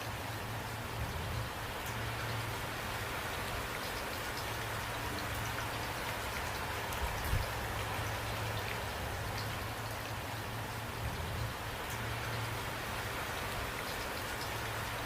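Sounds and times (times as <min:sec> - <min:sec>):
raindrops ticking on a surface: 0:00.0 - 0:15.0
steady rain hiss: 0:00.0 - 0:15.0.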